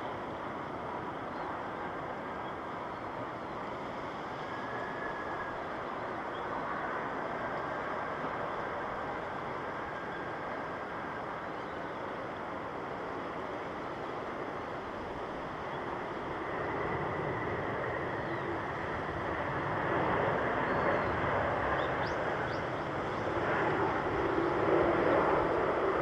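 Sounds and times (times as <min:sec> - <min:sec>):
jet airliner engine rushing: 0:00.2 - 0:26.0.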